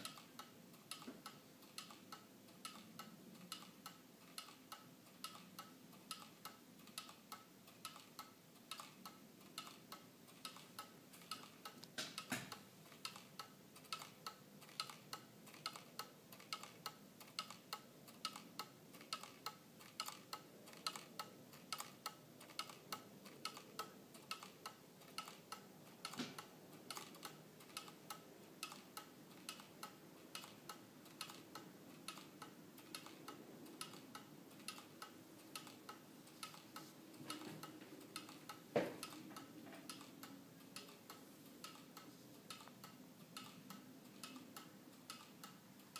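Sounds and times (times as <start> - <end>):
wall clock ticking: 0.0 - 45.9.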